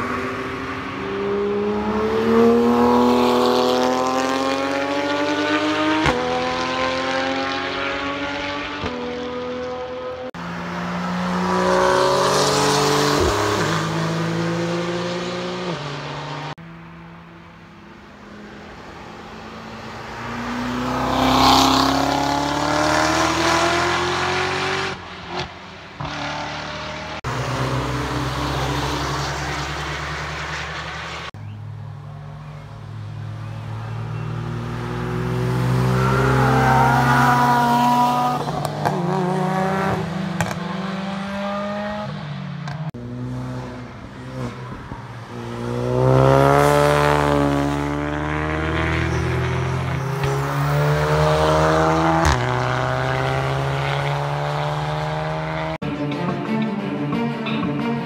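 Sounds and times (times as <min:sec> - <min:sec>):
engines revving with upshifts: 0:00.0 - 0:16.6, 0:18.2 - 0:55.8
sports cars driving past: 0:00.0 - 0:58.0.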